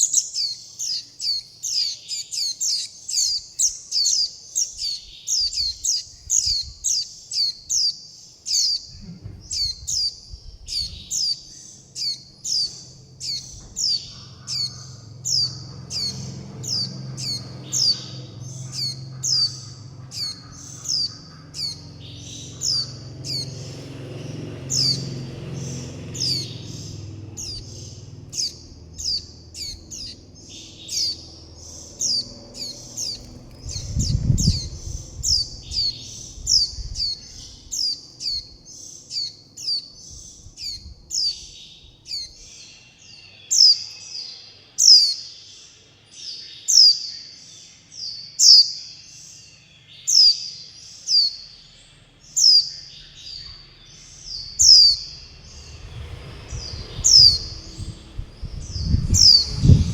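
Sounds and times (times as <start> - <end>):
young bird begging chirps: 0.0 - 23.9, 24.6 - 42.6, 48.4 - 48.8, 52.3 - 55.3, 56.5 - 59.9.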